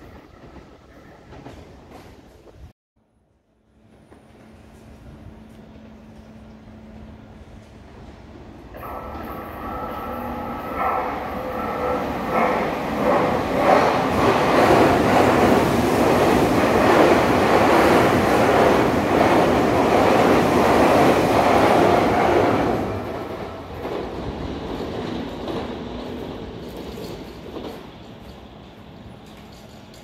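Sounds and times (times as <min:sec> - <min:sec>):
train wheels rumbling on rail: 0:00.0 - 0:02.7, 0:03.6 - 0:30.0.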